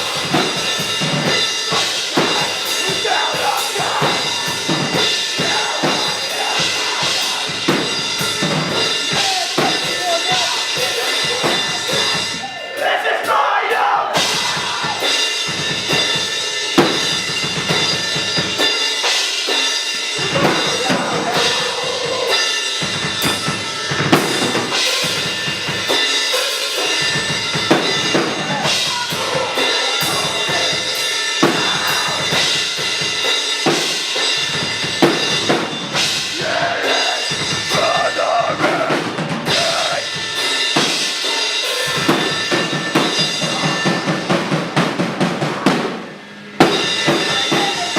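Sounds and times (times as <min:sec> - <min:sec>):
drum kit: 0:00.0 - 0:47.9
metal band playing live: 0:00.0 - 0:47.9.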